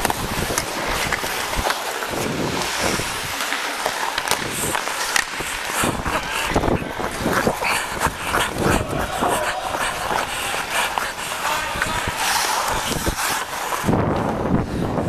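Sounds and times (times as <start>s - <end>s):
wind on microphone: 0.0s - 3.4s, 4.4s - 15.0s
skates scraping across ice: 0.0s - 15.0s.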